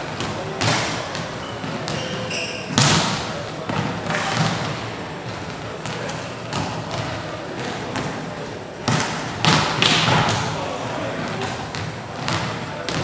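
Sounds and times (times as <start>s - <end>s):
volleyballs smacking and bouncing: 0.1s - 13.0s.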